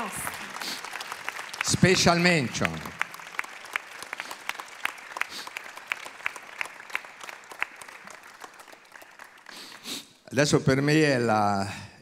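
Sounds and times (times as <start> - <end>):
audience applauding: 0.0 - 10.1
hands clapping sharply: 0.0 - 10.1.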